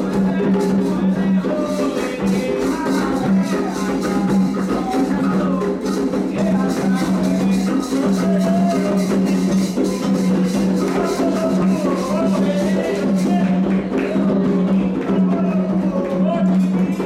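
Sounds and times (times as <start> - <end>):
hand drums: 0.0 - 17.0
rattling percussion: 0.0 - 17.0
voices singing a chant: 0.0 - 17.0.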